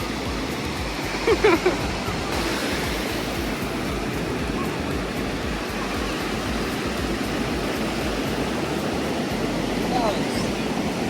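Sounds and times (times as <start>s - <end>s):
ocean surf rushing: 0.0s - 11.0s
wind on microphone: 0.0s - 11.0s.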